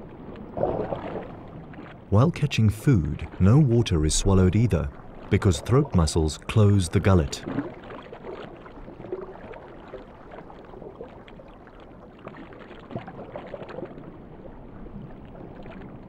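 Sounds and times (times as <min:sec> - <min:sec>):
muffled underwater water wash: 0:00.0 - 0:16.0
soft water gurgles: 0:00.0 - 0:16.0.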